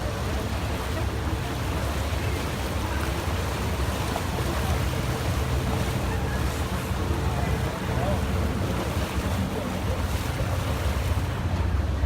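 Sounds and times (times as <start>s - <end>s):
boat engine rumbling: 0.0s - 12.0s
rushing water and wind: 0.0s - 12.0s.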